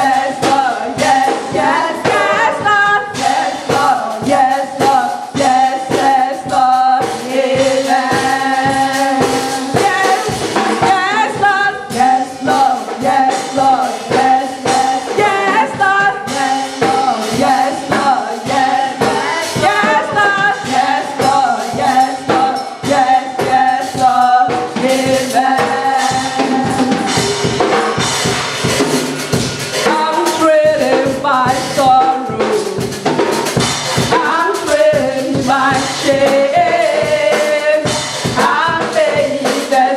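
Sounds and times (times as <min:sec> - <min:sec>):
band instruments: 0:00.0 - 0:39.9
choir singing gospel: 0:00.0 - 0:39.9
drum kit steady beat: 0:00.0 - 0:39.9.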